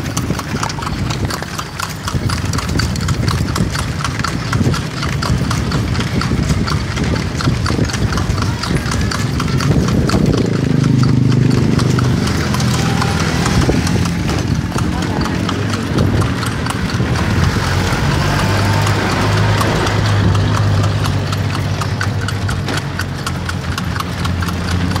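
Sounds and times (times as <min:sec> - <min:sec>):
horse hooves on pavement: 0:00.0 - 0:25.0.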